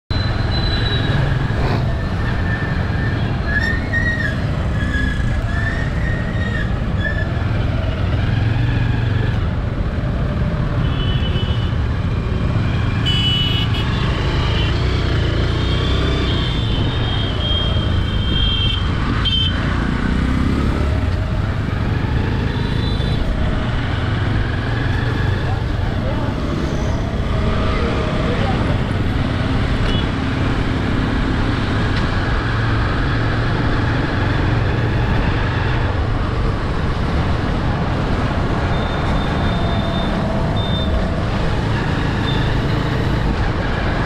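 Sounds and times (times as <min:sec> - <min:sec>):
passing cars and motorbikes: 0:00.1 - 0:44.0.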